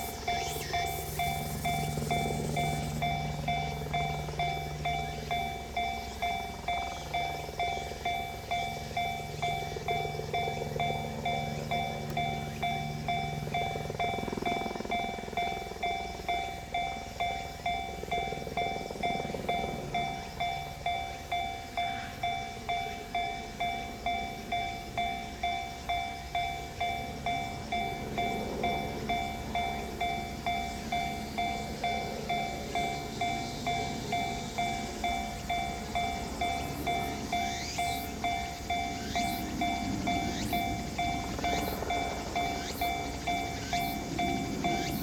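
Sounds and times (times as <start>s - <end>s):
level crossing warning alarm: 0.0s - 45.0s.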